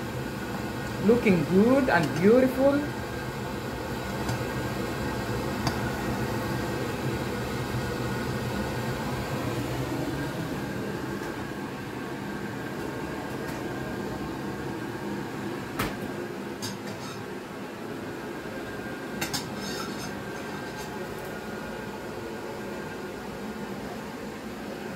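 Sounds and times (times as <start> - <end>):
mechanical hum: 0.0 - 24.9.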